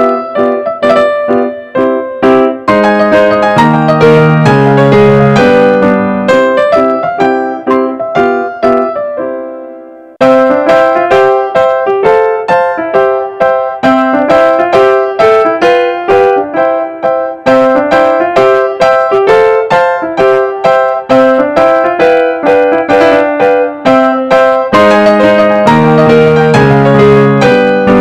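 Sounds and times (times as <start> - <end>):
piano-like keyboard melody: 0.0 - 28.0.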